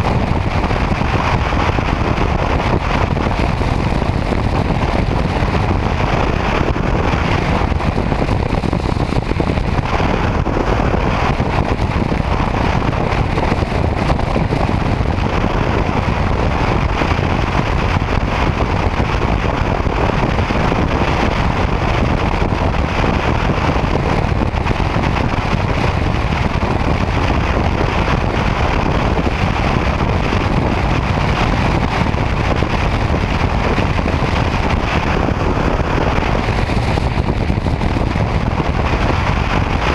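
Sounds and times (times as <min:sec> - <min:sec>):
motorcycle road noise: 0:00.0 - 0:39.9
wind buffeting microphone: 0:00.0 - 0:39.9.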